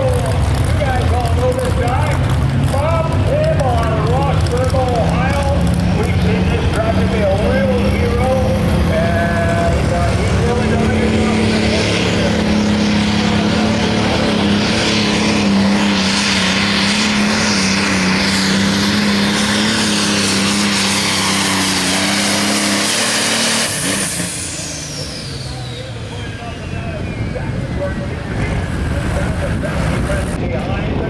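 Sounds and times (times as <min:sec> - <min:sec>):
diesel tractor engine under load: 0:00.0 - 0:31.0.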